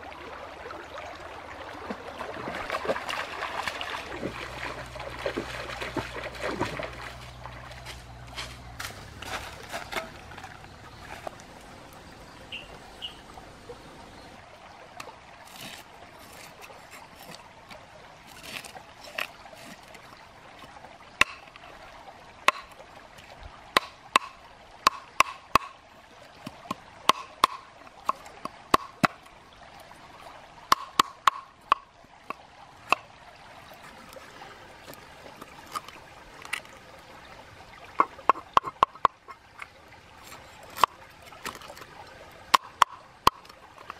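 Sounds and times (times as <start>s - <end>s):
stream water trickling: 0.0s - 43.9s.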